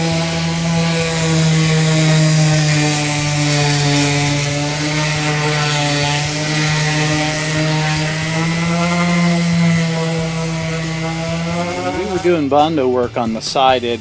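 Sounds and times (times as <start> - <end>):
electric power sander running: 0.0 - 14.0.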